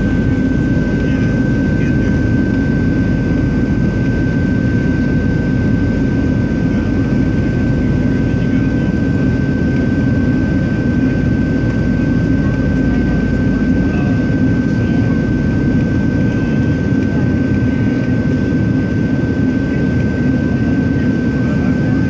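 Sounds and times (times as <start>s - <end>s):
jet engines roaring: 0.0s - 22.0s
thin steady whine: 0.0s - 22.0s.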